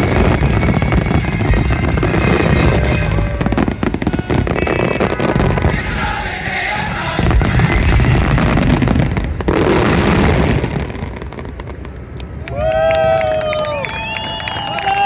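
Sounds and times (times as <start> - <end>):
fireworks booming and crackling: 0.0 - 12.8.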